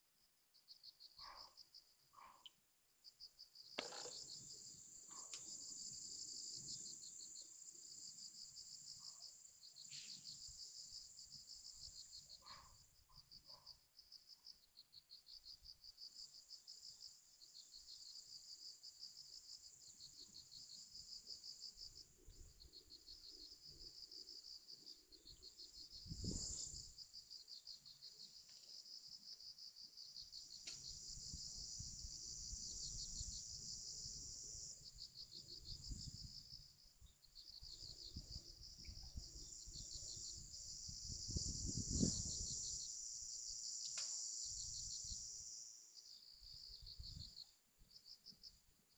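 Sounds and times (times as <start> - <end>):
insects chirping: 0.2 - 48.9.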